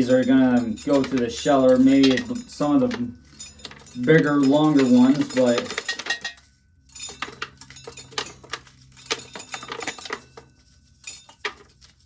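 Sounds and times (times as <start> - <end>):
dry corn rattling and clicking: 0.0 - 12.0.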